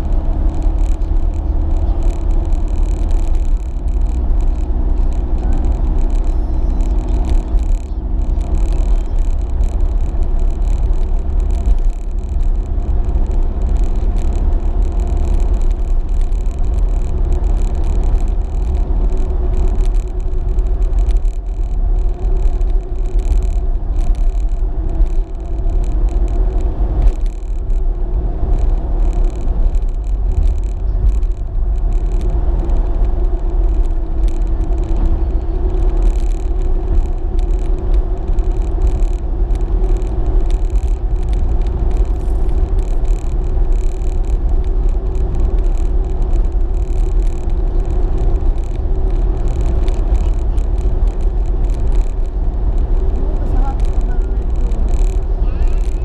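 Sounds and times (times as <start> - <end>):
constant hum: 0.0 - 56.0
road and engine rumble: 0.0 - 56.0.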